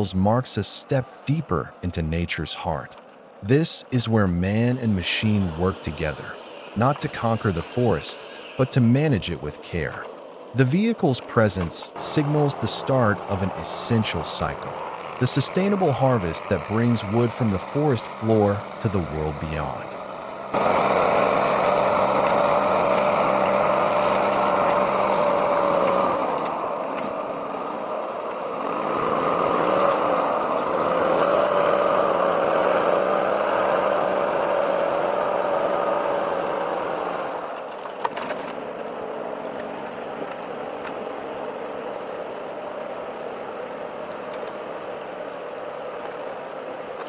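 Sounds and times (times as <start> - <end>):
heavy vehicle engine whine: 0.0 - 47.0.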